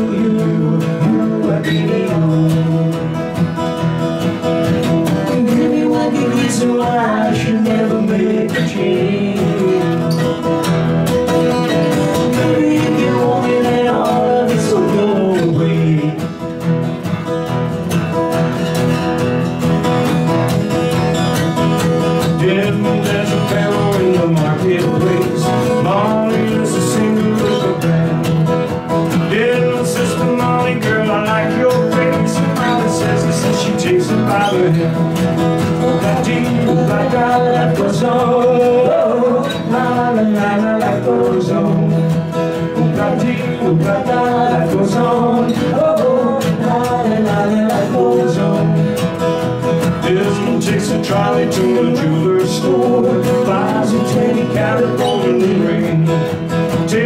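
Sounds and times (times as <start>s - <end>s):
men singing: 0.0s - 3.4s, 4.8s - 10.6s, 11.7s - 16.5s, 22.2s - 57.0s
acoustic guitars strumming: 0.0s - 57.0s.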